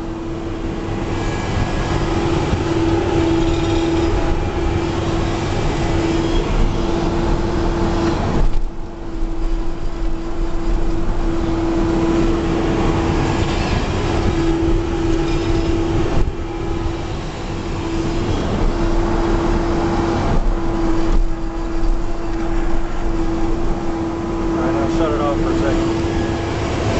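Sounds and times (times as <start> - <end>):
backhoe engine droning: 0.0 - 26.9.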